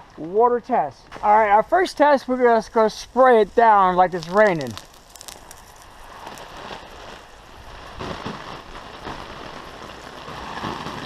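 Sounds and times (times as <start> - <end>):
water spray on tent fabric: 1.2 - 11.0.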